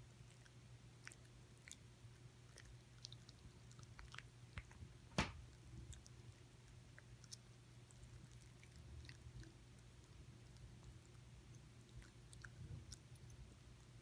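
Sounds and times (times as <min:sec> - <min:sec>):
dog gnawing a chew: 0:00.1 - 0:04.8, 0:05.4 - 0:14.0.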